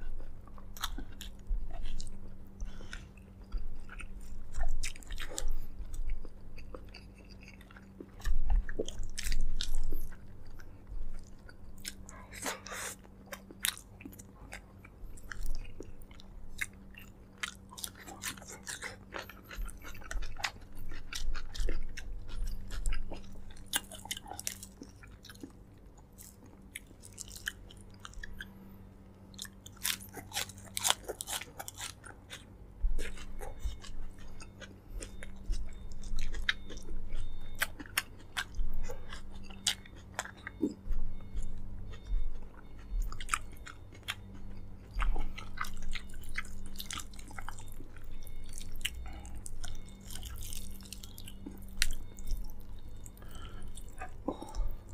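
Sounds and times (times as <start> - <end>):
low electrical hum: 0.0 - 54.9
person chewing food: 0.0 - 54.9.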